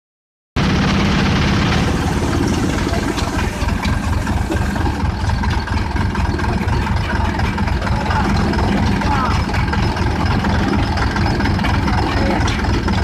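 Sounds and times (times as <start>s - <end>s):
chaff cutter rumbling: 0.6s - 13.0s.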